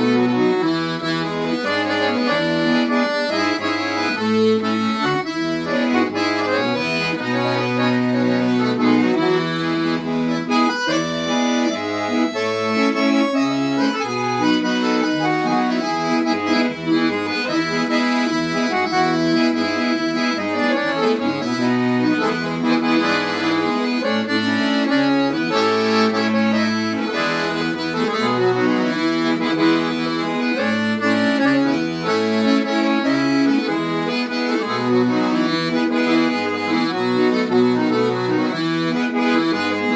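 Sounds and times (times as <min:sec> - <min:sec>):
accordion playing melody: 0:00.0 - 0:39.9.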